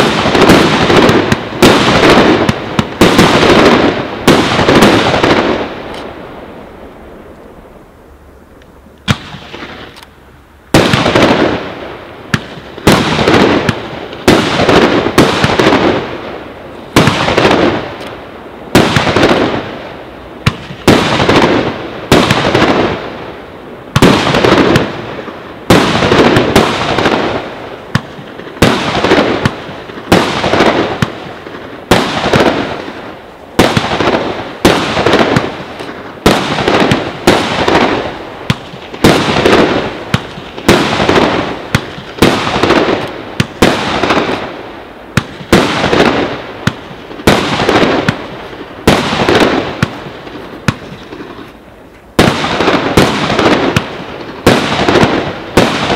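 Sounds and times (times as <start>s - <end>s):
fireworks bangs with echo: 0.0s - 7.1s, 9.0s - 10.0s, 10.7s - 55.9s.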